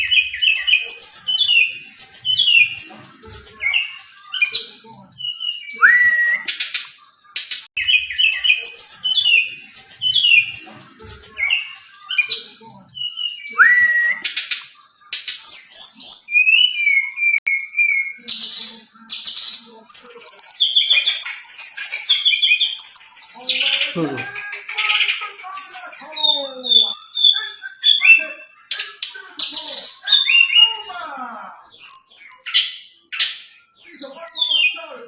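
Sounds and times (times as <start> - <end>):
bird harsh rasps: 0.0 - 35.0
bird singing whistled phrases: 0.0 - 35.0.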